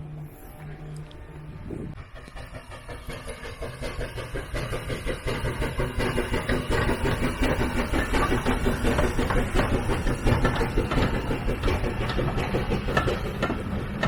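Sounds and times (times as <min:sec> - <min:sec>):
steam engine rhythmic exhaust: 0:00.0 - 0:14.0.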